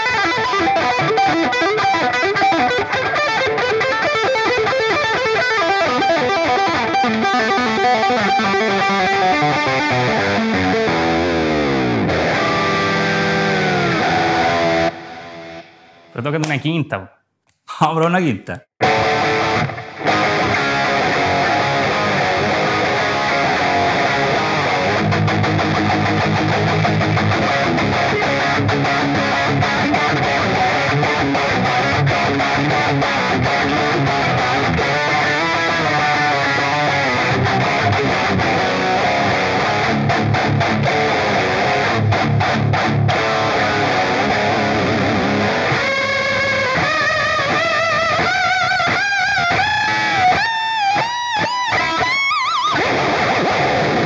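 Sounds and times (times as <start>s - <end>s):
electric guitar riffs: 0.0s - 16.5s, 18.8s - 54.0s.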